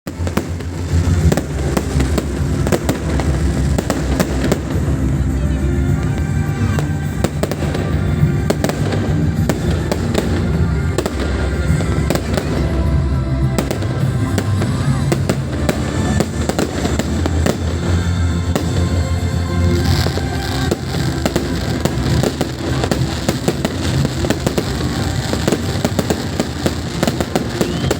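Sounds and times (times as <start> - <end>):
firecracker crackling: 0.1 - 27.9
fireworks bangs: 0.1 - 27.9.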